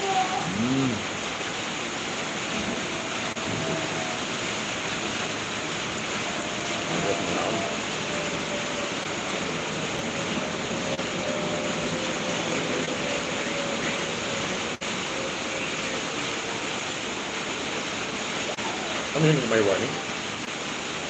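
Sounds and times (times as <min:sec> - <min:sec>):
steady rushing noise: 0:01.2 - 0:21.0.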